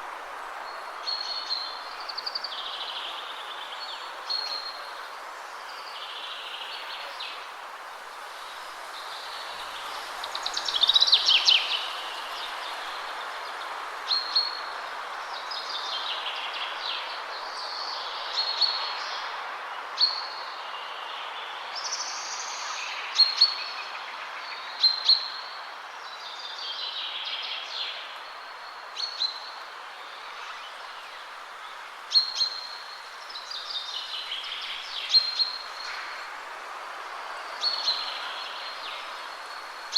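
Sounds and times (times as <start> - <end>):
wind through trees: 0.0 - 39.9.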